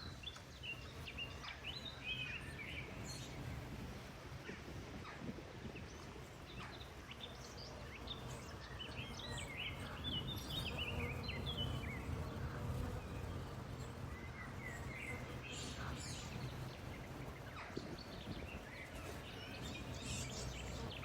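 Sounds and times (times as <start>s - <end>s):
songbird chirping: 0.0s - 3.8s, 5.1s - 21.0s
low outdoor background noise: 0.0s - 21.0s.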